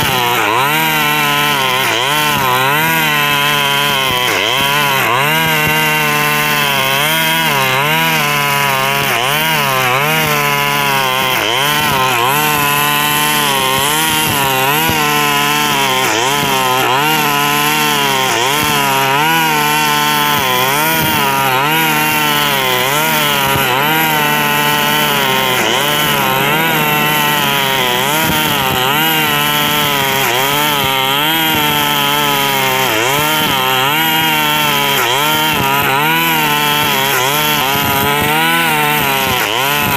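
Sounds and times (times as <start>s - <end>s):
brush cutter engine running: 0.0s - 39.9s
trimmer line cutting grass: 0.0s - 39.9s.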